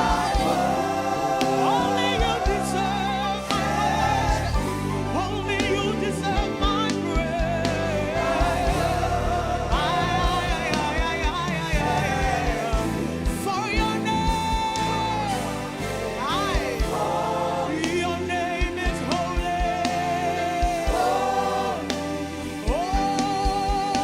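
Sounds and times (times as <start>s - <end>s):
band playing slow beat: 0.0s - 24.0s
wavering wordless singing: 0.0s - 24.0s.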